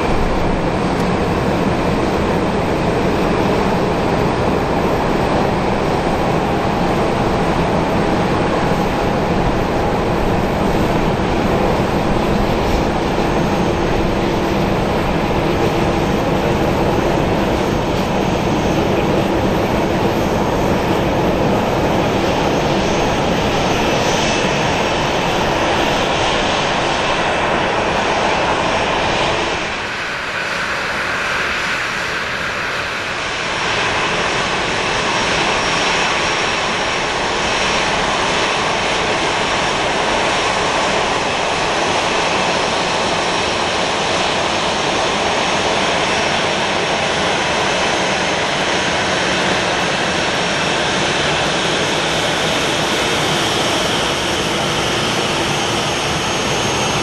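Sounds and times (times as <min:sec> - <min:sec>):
jet engines at taxi power: 0:00.0 - 0:57.0.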